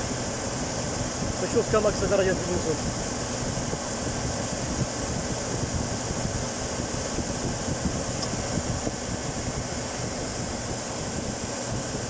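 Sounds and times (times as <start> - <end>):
air conditioning hiss: 0.0 - 12.0.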